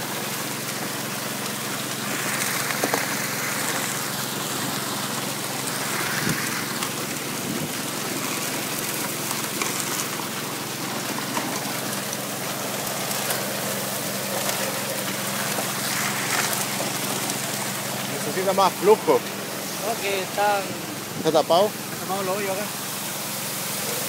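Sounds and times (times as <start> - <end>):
water pump engine humming: 0.0 - 24.0
water rushing and splashing: 0.0 - 24.0.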